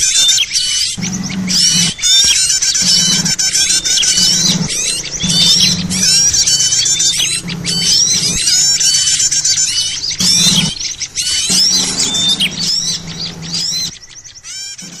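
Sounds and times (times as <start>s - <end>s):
small birds chirping and twittering: 0.0s - 15.0s
low steady hum: 1.0s - 15.0s.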